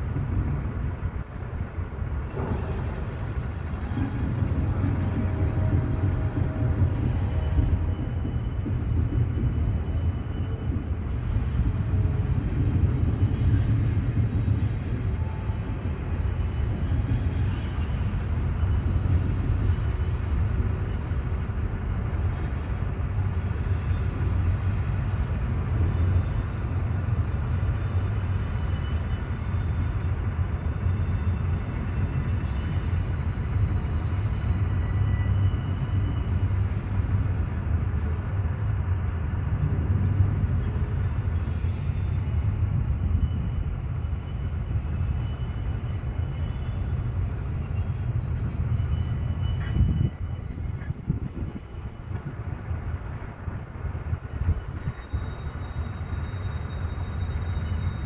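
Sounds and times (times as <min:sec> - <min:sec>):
train cars rumbling on rails: 0:00.0 - 0:58.0.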